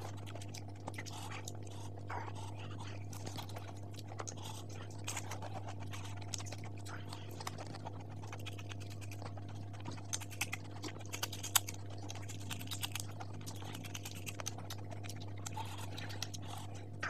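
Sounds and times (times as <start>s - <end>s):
chewing crunchy pastry: 0.0s - 17.0s
low steady hum: 0.0s - 17.0s.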